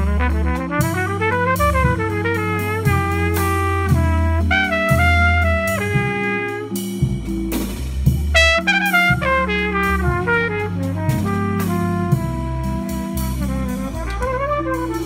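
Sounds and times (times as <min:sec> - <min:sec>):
bass: 0:00.0 - 0:15.0
keyboard chords: 0:00.0 - 0:15.0
light drums: 0:00.0 - 0:15.0
trumpet melody: 0:00.0 - 0:15.0.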